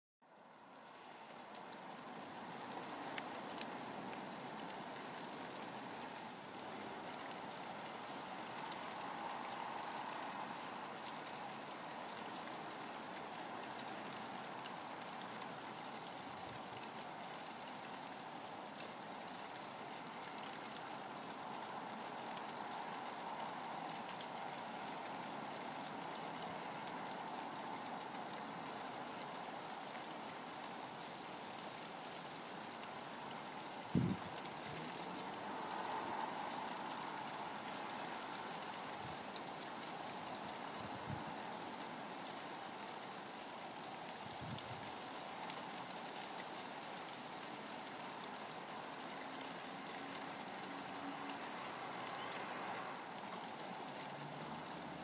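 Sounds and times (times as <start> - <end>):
steady rain falling: 0.2 - 55.0.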